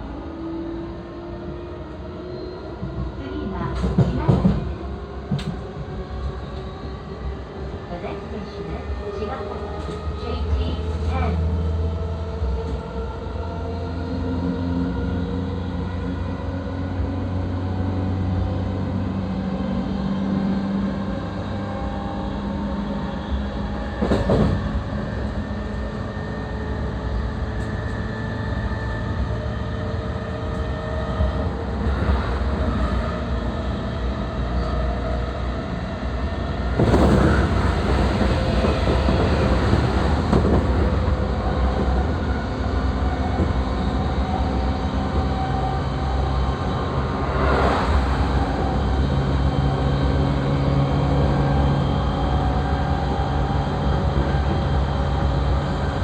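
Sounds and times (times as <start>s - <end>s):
train wheels rumbling on rail: 1.8s - 13.5s, 14.2s - 56.0s.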